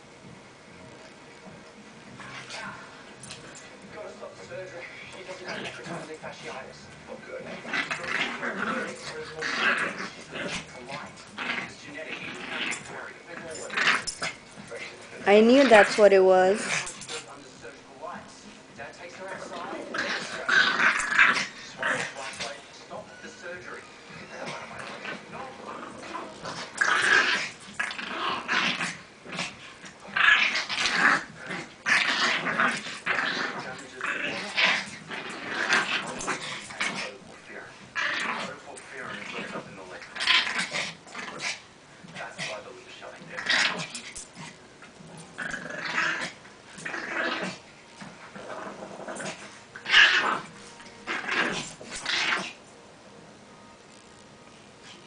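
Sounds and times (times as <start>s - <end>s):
dogs growling: 0.2s - 52.7s.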